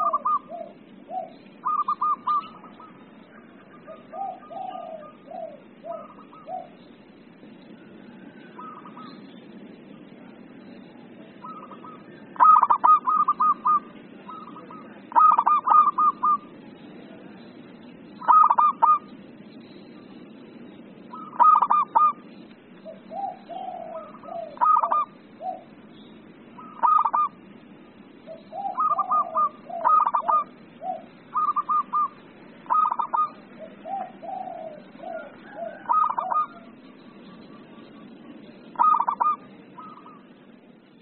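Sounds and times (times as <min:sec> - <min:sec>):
dove cooing: 0:00.0 - 0:17.4, 0:18.1 - 0:19.2, 0:21.1 - 0:25.8, 0:26.5 - 0:40.6.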